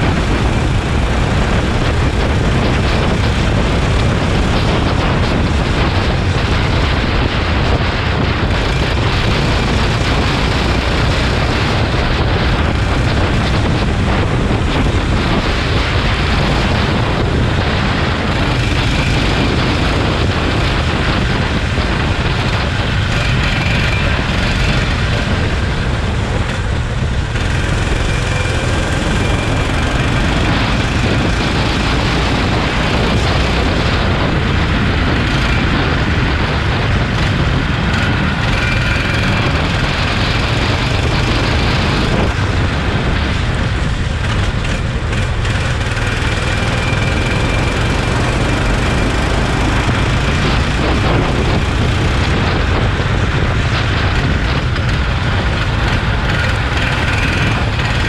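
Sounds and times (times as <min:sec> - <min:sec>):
go-kart engine running: 0:00.0 - 0:58.0
wind noise on microphone: 0:00.0 - 0:58.0.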